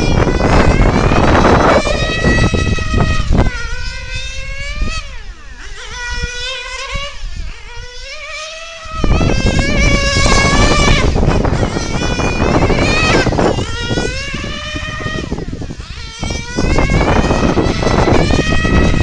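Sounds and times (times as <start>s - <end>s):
rc car engine high-pitched whine: 0.0s - 19.0s.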